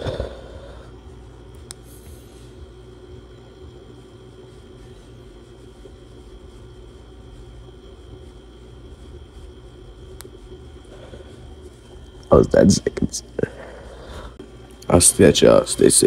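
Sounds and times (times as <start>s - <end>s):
low steady rumble with whine: 0.0s - 16.0s.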